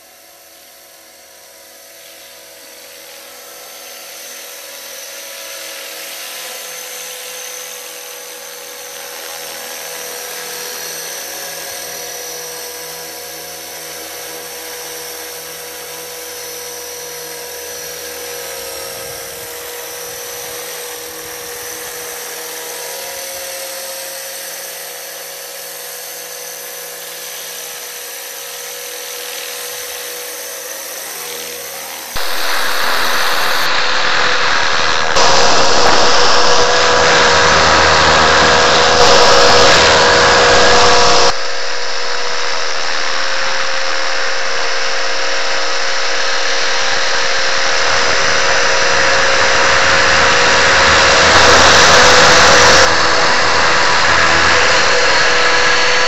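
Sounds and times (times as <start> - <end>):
rc helicopter motor whine: 0.0 - 56.0
rotor blade noise: 3.1 - 56.0.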